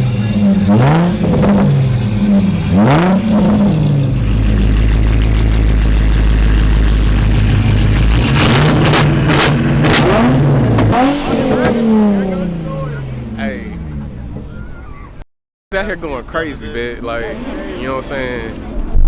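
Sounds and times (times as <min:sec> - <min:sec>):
car engine revving: 0:00.0 - 0:14.9, 0:16.2 - 0:19.0.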